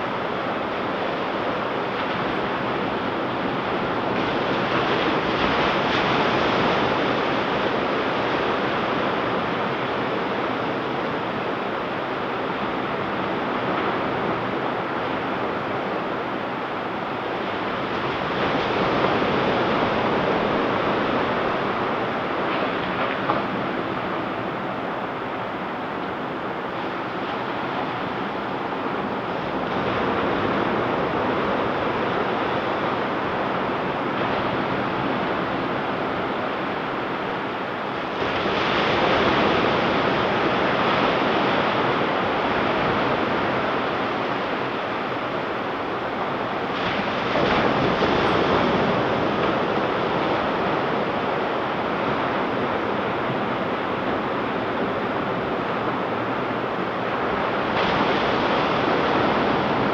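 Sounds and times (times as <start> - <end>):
ocean surf washing up beach: 0.0 - 59.9.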